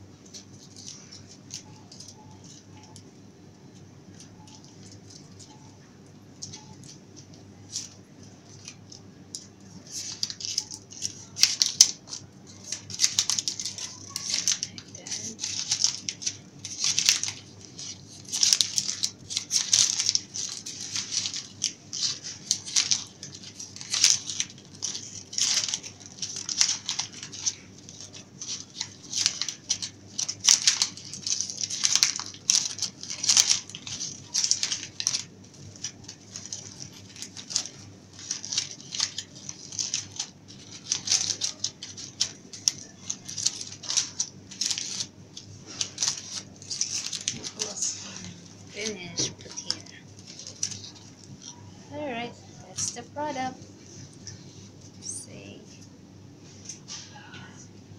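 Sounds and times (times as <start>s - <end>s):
plastic ribbon crinkling: 0.0s - 57.6s.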